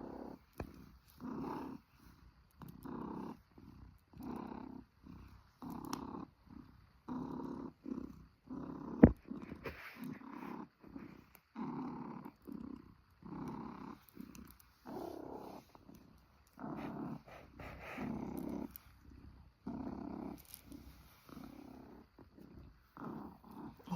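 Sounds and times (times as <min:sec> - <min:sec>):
cat purring: 0:00.0 - 0:23.9.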